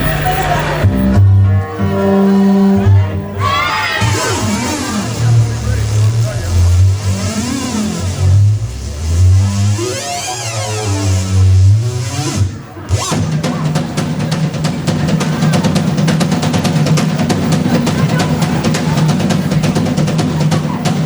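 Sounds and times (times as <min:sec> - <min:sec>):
distorted low bass: 0:00.0 - 0:21.0
fast dense drumming: 0:03.4 - 0:21.0.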